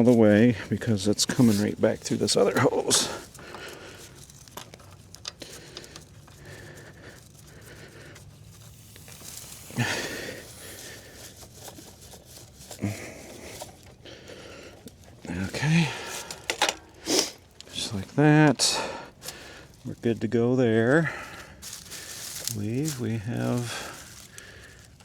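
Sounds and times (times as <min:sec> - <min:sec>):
faint rustling and handling: 0:00.0 - 0:25.0.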